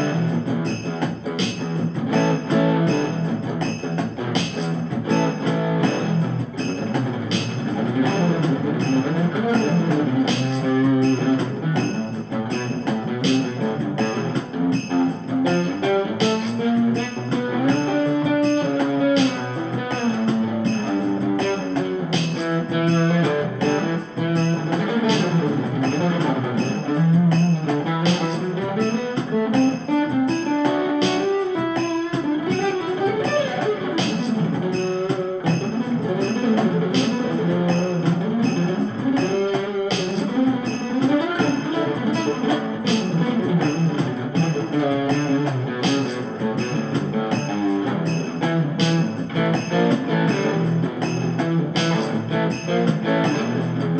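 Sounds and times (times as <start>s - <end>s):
instrumental music with steady beat: 0.0s - 53.9s.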